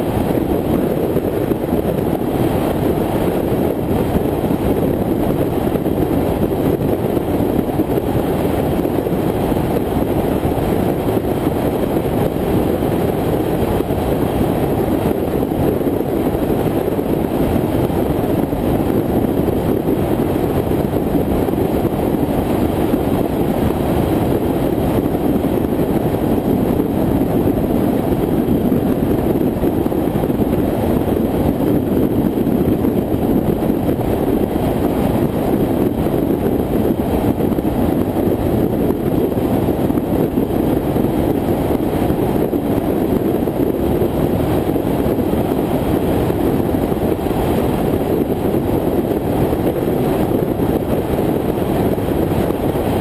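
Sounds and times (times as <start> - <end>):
car road noise at highway speed: 0.0 - 53.0
muffled wind rush: 0.0 - 53.0.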